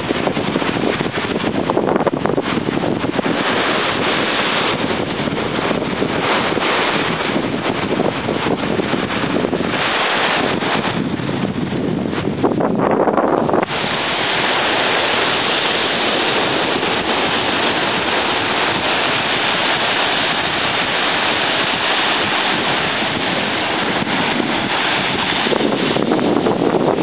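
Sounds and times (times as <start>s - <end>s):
small waves breaking on beach: 0.0s - 12.4s, 13.5s - 27.0s
wind on microphone: 0.0s - 27.0s.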